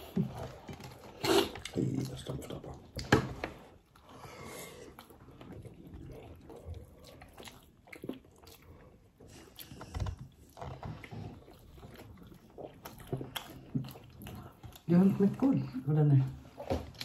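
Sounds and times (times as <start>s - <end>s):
chewing and smacking: 0.0s - 17.0s.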